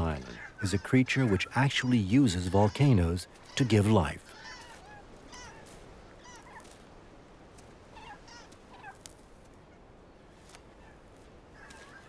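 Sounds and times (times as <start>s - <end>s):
birds calling faintly: 0.0s - 12.0s.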